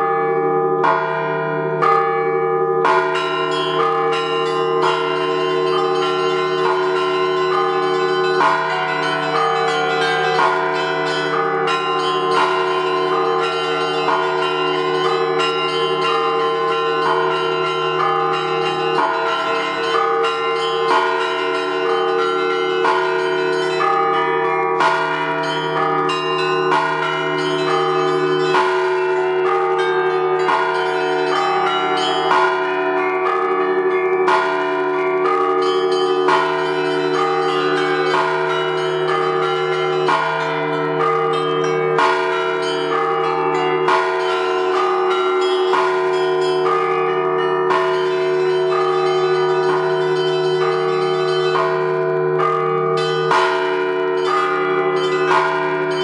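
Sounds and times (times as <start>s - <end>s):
large bells ringing: 0.0s - 56.0s.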